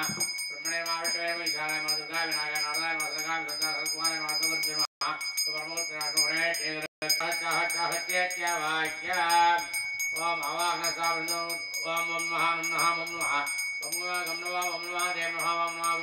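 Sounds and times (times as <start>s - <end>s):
jingling beat: 0.0s - 16.0s
person singing devotional song: 0.0s - 16.0s.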